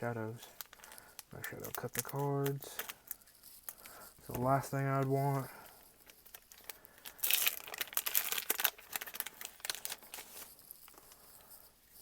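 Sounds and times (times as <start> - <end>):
foil wrapper crinkling: 0.0 - 11.7.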